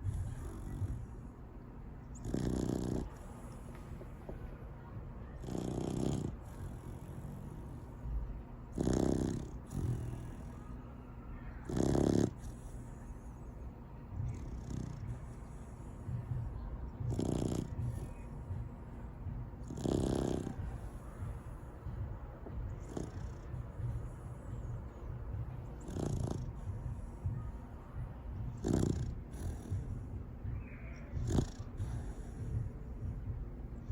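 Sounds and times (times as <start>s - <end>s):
dog snoring: 0.0s - 1.3s, 2.0s - 4.0s, 5.3s - 8.1s, 8.7s - 10.8s, 11.6s - 13.5s, 14.2s - 27.5s, 28.3s - 33.9s.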